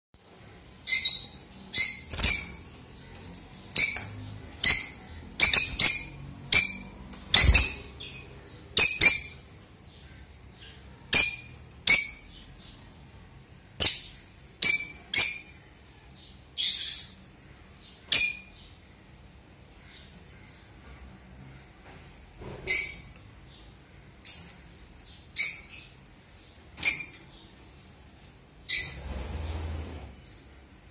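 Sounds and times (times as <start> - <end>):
lovebirds chirping: 0.2 - 22.0, 22.6 - 30.9.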